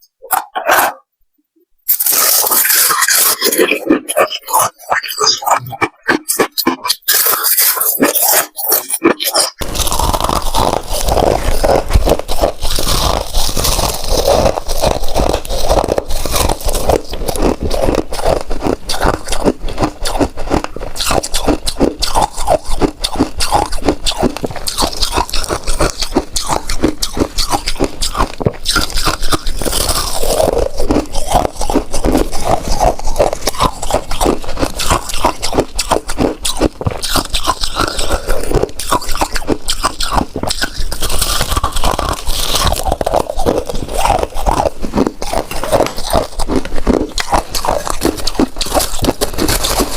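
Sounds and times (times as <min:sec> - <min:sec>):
ice being chewed: 0:01.9 - 0:49.9.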